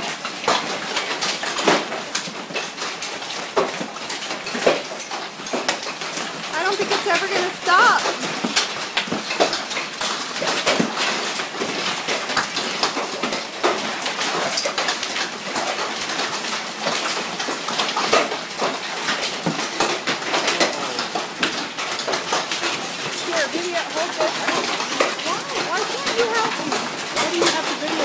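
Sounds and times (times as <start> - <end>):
hailstones pelting down: 0.0 - 28.0.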